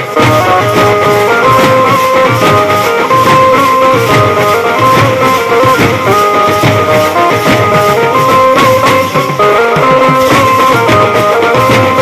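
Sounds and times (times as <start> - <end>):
amplified banjo melody: 0.0 - 12.0
bass drums and side drums: 0.0 - 12.0.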